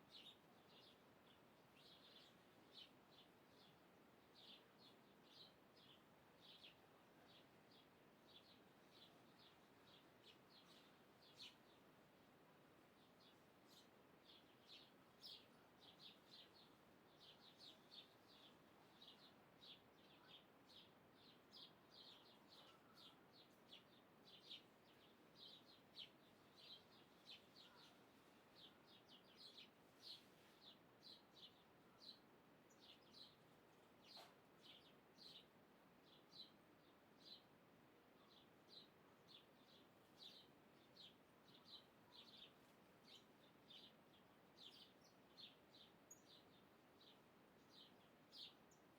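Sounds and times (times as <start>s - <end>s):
faint birds chirping: 0.0s - 48.9s
outdoor background hiss: 0.0s - 48.9s.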